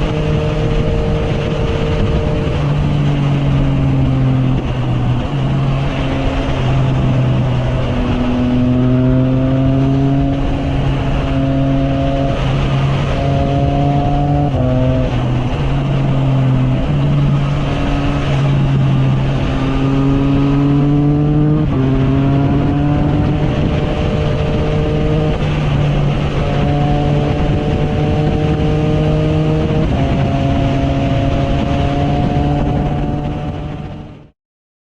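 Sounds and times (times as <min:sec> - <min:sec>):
motorcycle engine cruising: 0:00.0 - 0:34.3
wind and road noise: 0:00.0 - 0:34.4.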